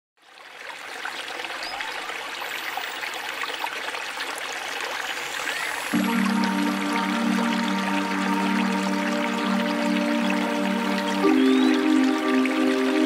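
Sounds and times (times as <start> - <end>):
water trickling over rocks: 0.2 - 13.0.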